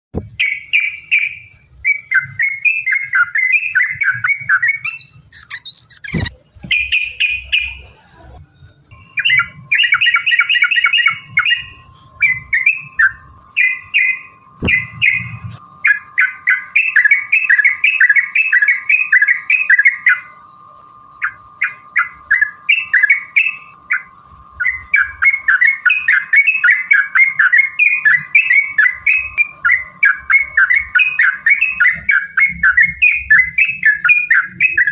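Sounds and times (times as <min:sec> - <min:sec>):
faint steady tone: 0:00.2 - 0:34.9
bulbuls singing bubbly chattering: 0:00.4 - 0:34.9.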